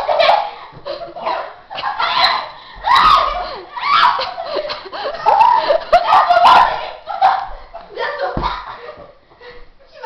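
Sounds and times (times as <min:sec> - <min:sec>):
girls laughing and squealing: 0:00.0 - 0:09.2.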